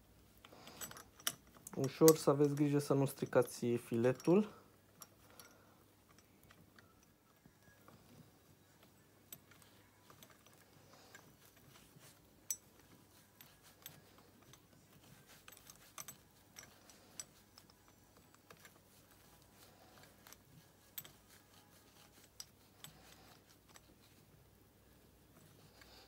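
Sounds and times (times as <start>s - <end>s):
metallic clicks of bolts handled: 0.4s - 7.2s, 8.8s - 24.2s.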